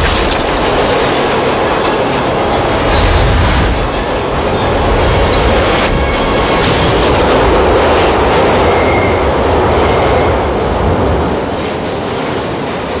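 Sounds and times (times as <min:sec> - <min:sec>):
subway train rushing past: 0:00.0 - 0:13.0
high wheel squeal: 0:00.1 - 0:06.9, 0:08.7 - 0:12.6.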